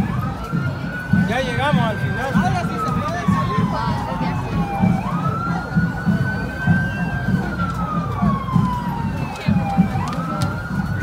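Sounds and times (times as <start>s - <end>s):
emergency vehicle siren wailing: 0.0s - 11.0s
low regular pulsing beat: 2.0s - 11.0s.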